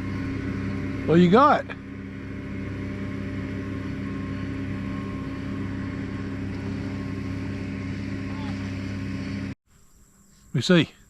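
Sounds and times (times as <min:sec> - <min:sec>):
motor humming steadily: 0:00.0 - 0:09.6.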